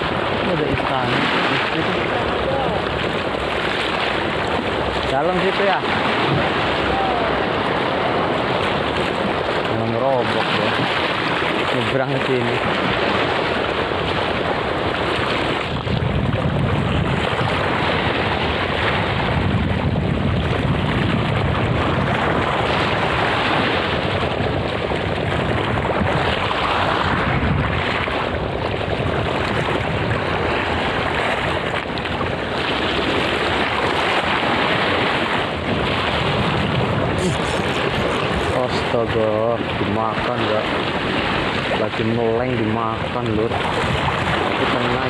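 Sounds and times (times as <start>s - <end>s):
sea water lapping: 0.0s - 45.0s
wind on microphone: 0.0s - 45.0s.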